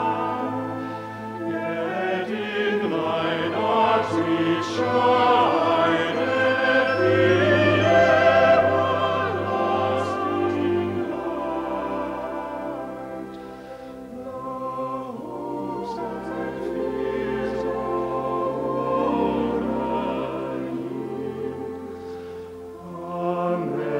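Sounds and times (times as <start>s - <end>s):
choir singing: 0.0s - 23.9s
operatic singing with vibrato: 0.0s - 23.9s
orchestral christmas music: 0.0s - 23.9s.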